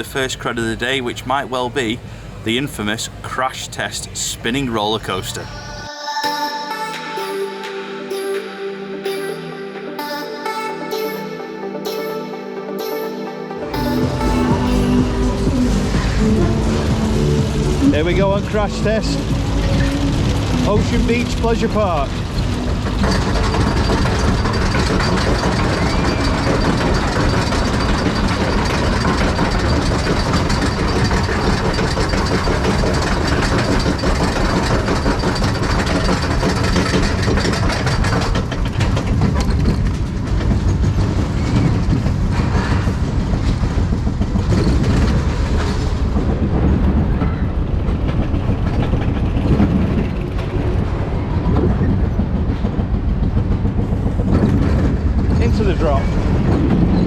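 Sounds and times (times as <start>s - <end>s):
roller coaster wheels rattling on rail: 0.0s - 5.5s, 13.8s - 57.0s.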